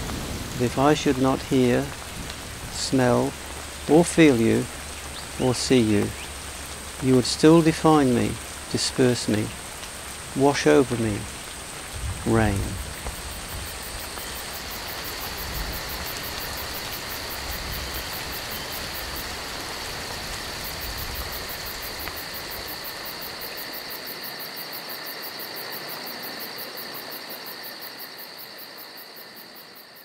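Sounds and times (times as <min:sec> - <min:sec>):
insects trilling: 0:00.0 - 0:30.0
steady rain falling: 0:00.0 - 0:30.0.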